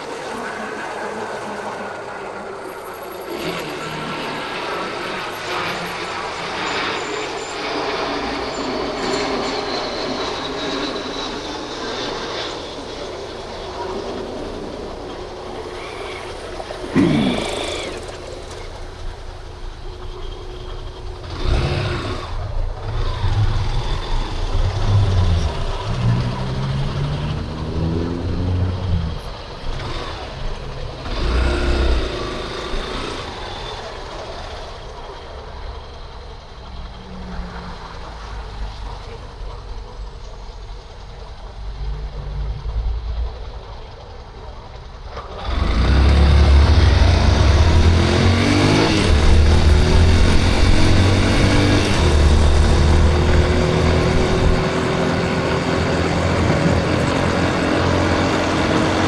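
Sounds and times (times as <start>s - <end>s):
vehicles passing: 0.0s - 59.0s
motorcycle engine accelerating: 3.2s - 35.9s, 41.1s - 59.0s.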